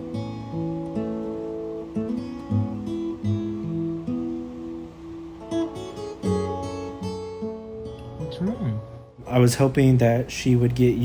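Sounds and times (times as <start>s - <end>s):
acoustic guitar played slowly: 0.0s - 11.0s.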